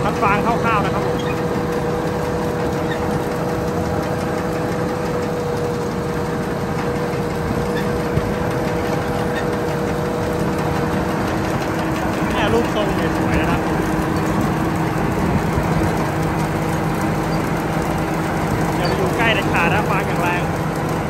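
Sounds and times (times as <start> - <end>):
combine harvester engine: 0.0 - 21.0
steady whine: 0.0 - 21.0.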